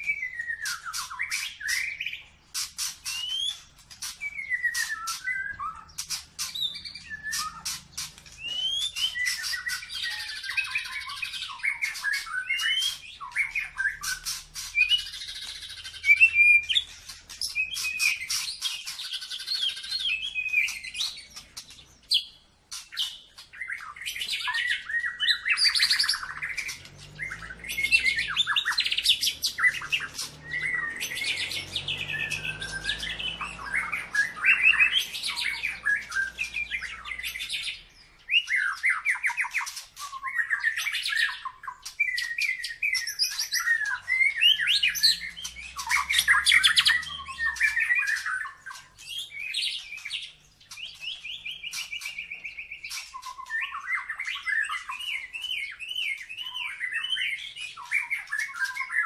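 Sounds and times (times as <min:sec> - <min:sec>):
songbird singing trills and whistles: 0:00.0 - 0:59.0.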